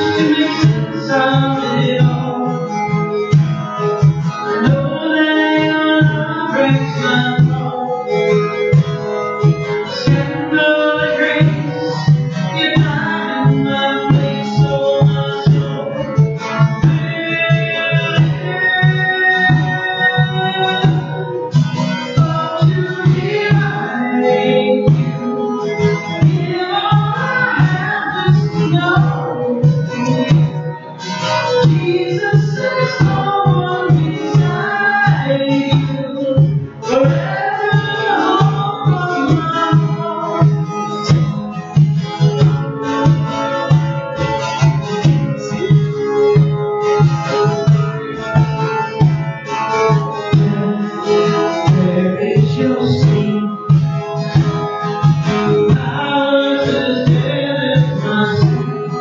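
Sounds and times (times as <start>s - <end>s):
person singing: 0.0s - 8.8s, 9.7s - 46.8s, 49.8s - 59.0s
acoustic guitar strumming: 0.0s - 59.0s
congas: 0.0s - 59.0s.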